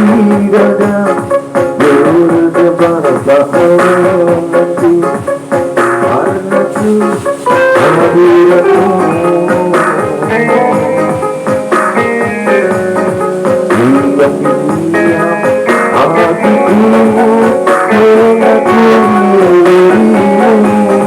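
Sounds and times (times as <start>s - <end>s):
drum beat: 0.0s - 21.0s
guitar: 0.0s - 21.0s
sliding melody line: 0.0s - 21.0s.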